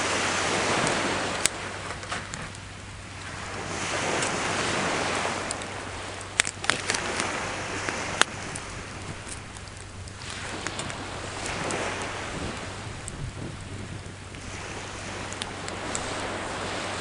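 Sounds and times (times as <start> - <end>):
wave washing on shore: 0.0 - 17.0
wood fire crackling: 0.0 - 17.0.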